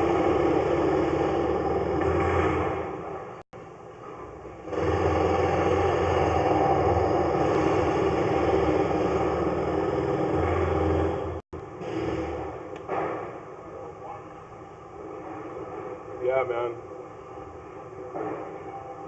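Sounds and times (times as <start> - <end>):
mechanical drone with low hum: 0.0 - 19.0.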